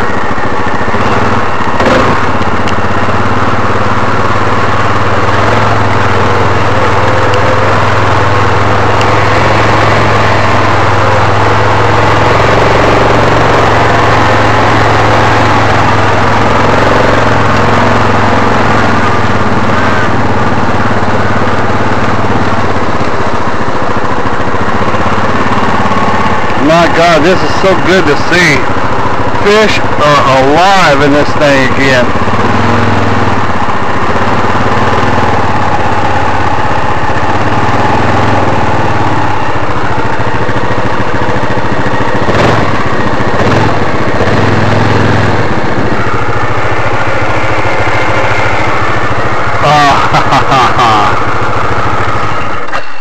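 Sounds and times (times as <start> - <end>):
quad bike engine droning: 0.0 - 53.0.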